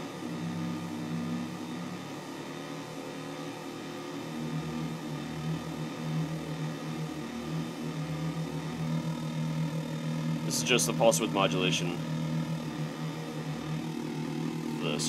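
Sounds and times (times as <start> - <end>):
synthesizer buzzing drone: 0.0 - 15.0.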